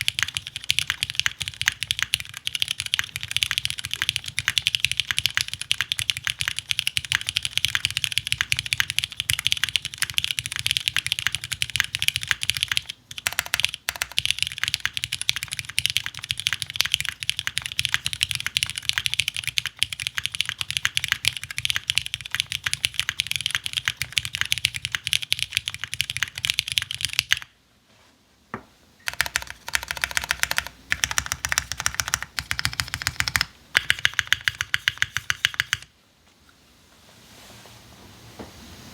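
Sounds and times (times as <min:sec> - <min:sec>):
mechanical keyboard typing: 0:00.0 - 0:27.5, 0:29.0 - 0:35.9.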